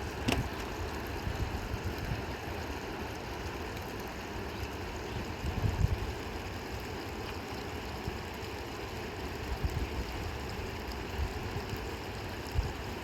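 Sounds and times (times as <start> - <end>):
fast-flowing river water: 0.0 - 13.0.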